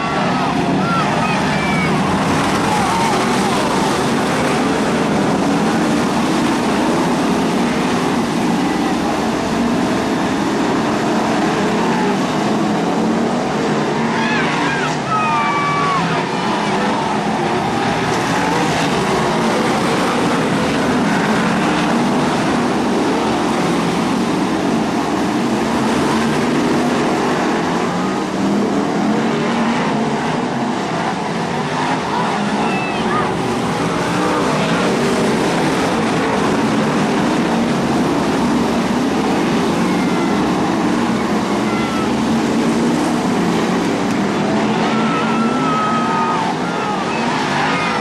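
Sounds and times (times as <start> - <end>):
racing car engines: 0.0 - 48.0.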